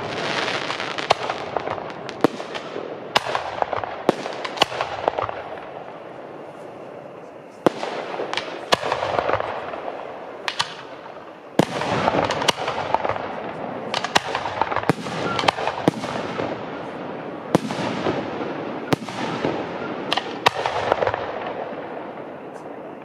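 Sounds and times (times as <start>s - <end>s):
firework bangs: 0.0s - 23.0s
fireworks crackling: 0.0s - 23.0s.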